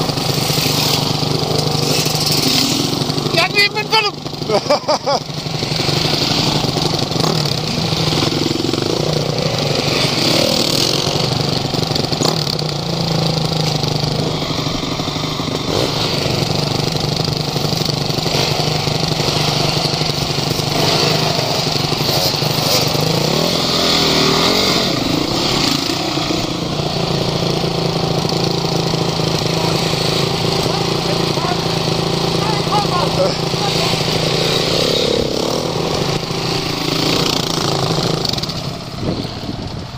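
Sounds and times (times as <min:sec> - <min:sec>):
off-road vehicle engine revving: 0:00.0 - 0:39.6.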